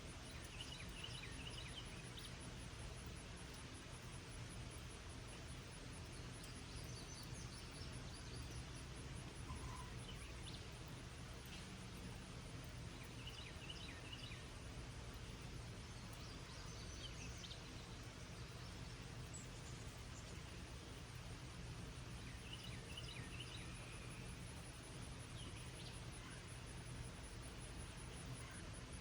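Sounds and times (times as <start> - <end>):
light rain hiss: 0.0 - 29.0.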